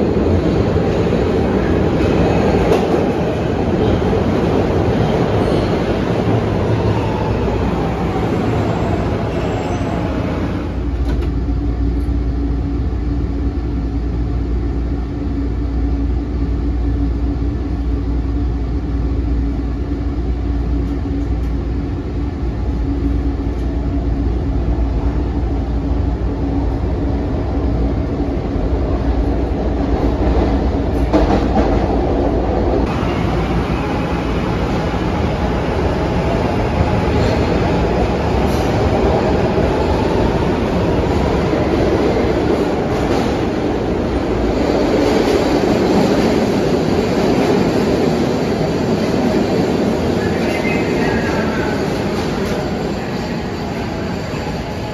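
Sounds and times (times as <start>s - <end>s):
subway train whine: 0.0s - 54.9s
train rumble in tunnel: 0.0s - 54.9s.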